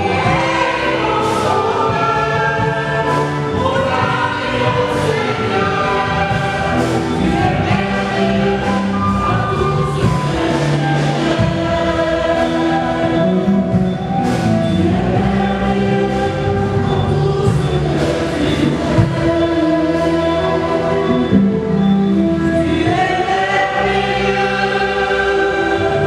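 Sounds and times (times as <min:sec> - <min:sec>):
church choir singing a hymn: 0:00.0 - 0:26.0
musical accompaniment: 0:00.0 - 0:26.0.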